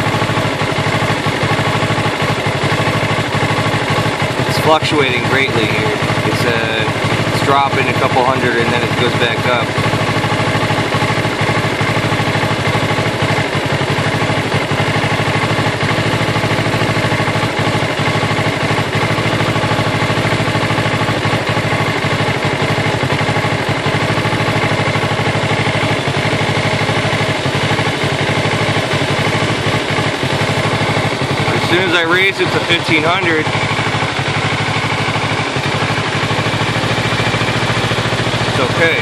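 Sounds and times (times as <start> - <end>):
motorcycle engine idling unevenly: 0.0 - 39.0.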